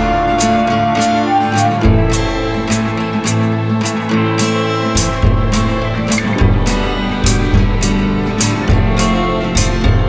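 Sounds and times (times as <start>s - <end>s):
music with sustained notes and beat: 0.0s - 10.0s.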